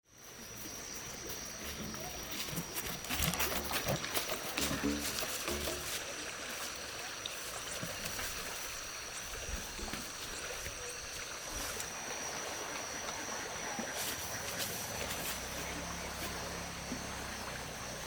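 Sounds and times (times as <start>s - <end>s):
flowing stream: 0.1s - 18.0s.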